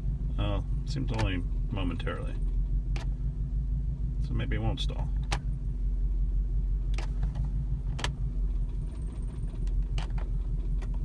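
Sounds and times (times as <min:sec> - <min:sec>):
car engine idling rough: 0:00.0 - 0:11.0.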